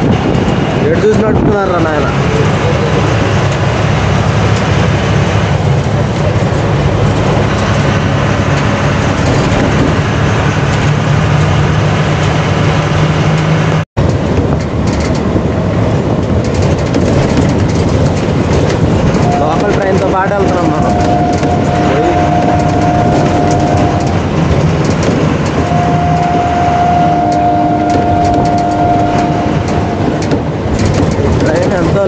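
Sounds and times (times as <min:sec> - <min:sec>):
lorry diesel engine running: 0:00.0 - 0:32.0
road and wind noise: 0:00.0 - 0:32.0.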